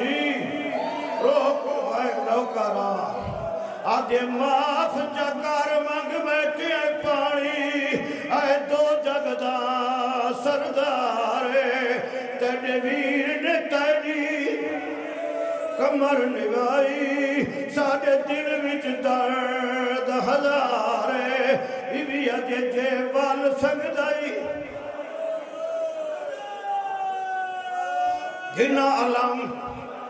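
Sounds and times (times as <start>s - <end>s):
man chanting mournful recitation: 0.0s - 15.1s, 15.7s - 25.1s, 28.1s - 30.0s.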